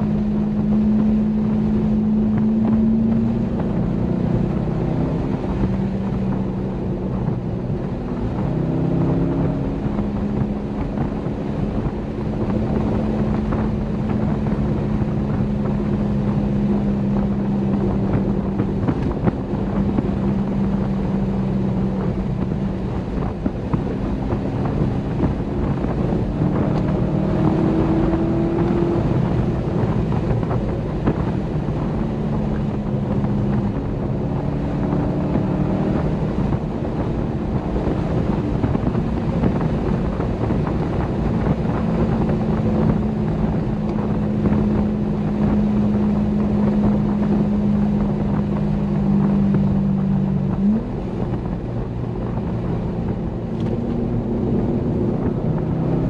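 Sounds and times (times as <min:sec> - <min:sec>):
car engine cruising: 0:00.0 - 0:56.0
wind and road noise: 0:00.0 - 0:56.0.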